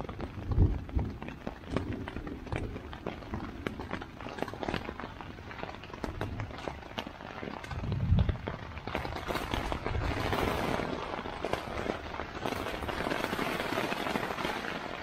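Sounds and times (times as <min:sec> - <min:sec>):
rain pattering on tent fabric: 0:00.0 - 0:15.0.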